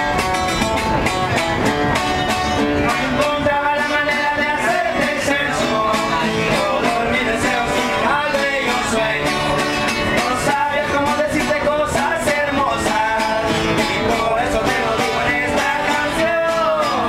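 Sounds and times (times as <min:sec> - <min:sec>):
acoustic guitar strummed and plucked: 0:00.0 - 0:17.0
people singing: 0:02.7 - 0:17.0.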